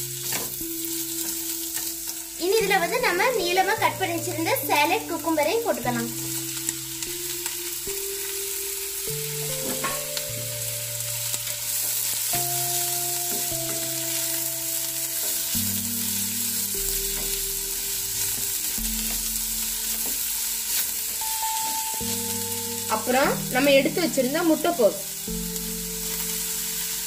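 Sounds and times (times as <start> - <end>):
soft background music: 0.0 - 27.0
vegetables sizzling in hot fat: 0.0 - 27.0.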